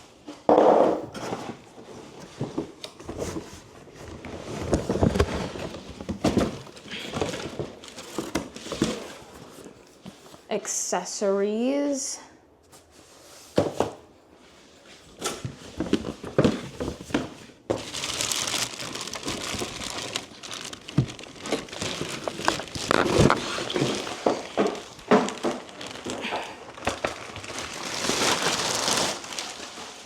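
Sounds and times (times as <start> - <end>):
packaging crinkling and rustling: 1.2 - 10.4, 15.0 - 30.0.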